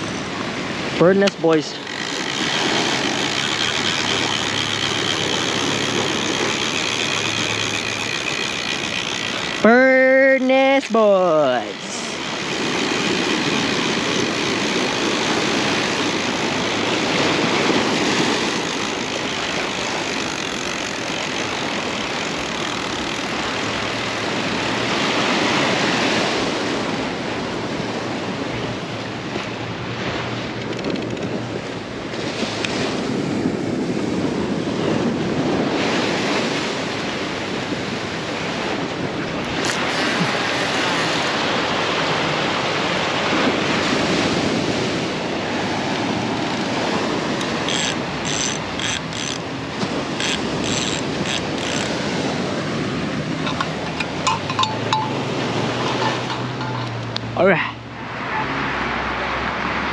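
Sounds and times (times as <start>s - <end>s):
ocean surf washing ashore: 0.0s - 59.9s.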